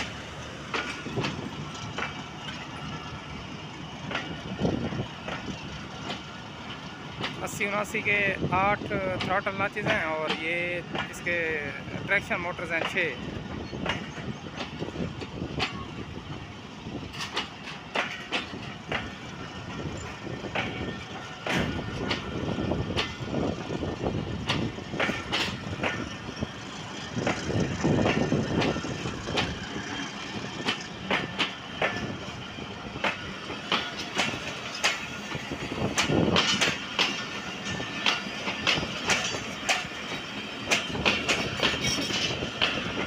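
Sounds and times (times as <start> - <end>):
low train rumble: 0.0 - 43.0
train wheels clacking over rail joints: 0.0 - 43.0.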